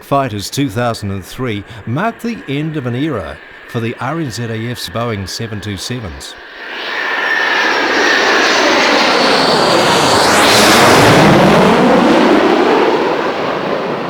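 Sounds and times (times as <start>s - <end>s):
jet airplane passing by: 0.0s - 14.0s.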